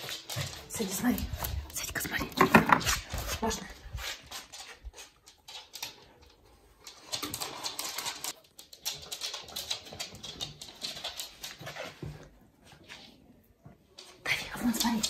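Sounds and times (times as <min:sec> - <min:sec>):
dog claws clicking on hard floor: 0:00.0 - 0:12.3.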